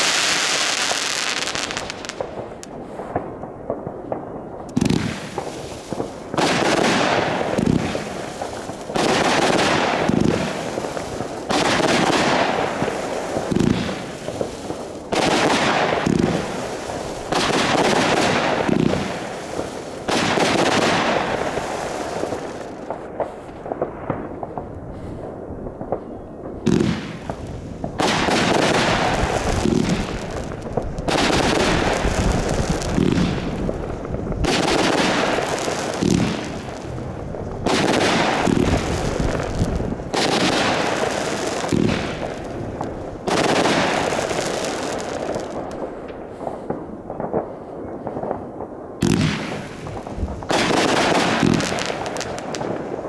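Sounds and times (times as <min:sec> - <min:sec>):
fireworks bangs: 0:00.0 - 0:53.0
fireworks crackling: 0:00.0 - 0:53.0.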